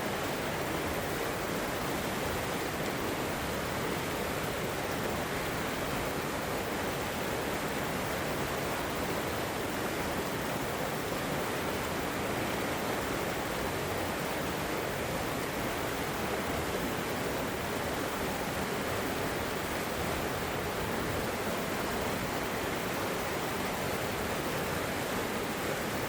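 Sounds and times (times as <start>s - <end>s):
river rushing over rocks: 0.0s - 26.0s.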